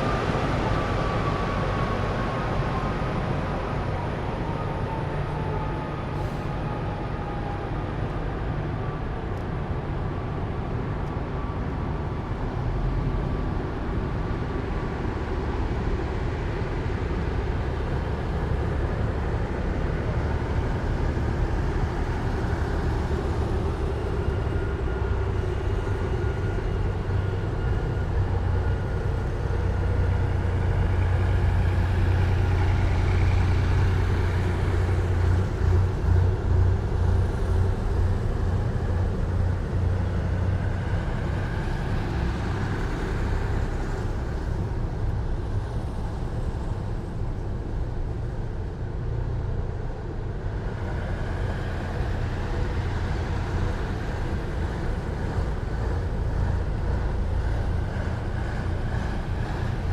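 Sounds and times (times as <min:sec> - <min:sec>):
heavy diesel vehicles rumbling past: 0:00.0 - 0:59.9.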